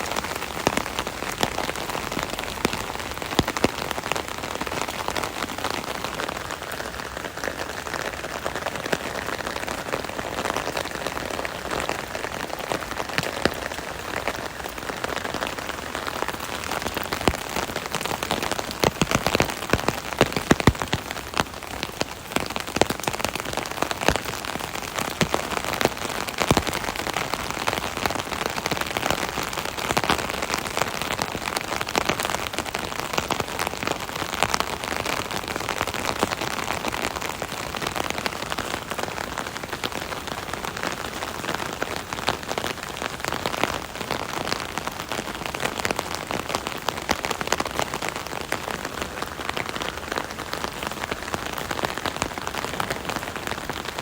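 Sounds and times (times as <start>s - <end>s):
rain drumming on an umbrella: 0.0s - 54.0s.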